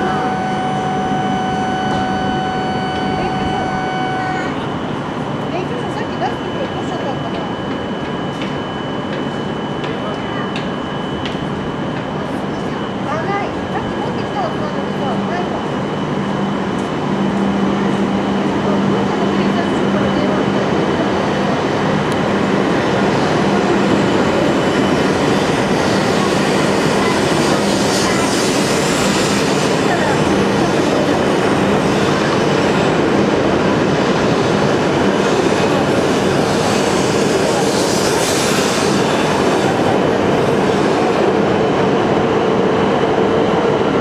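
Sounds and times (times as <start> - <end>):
train rumbling past: 0.0 - 44.0.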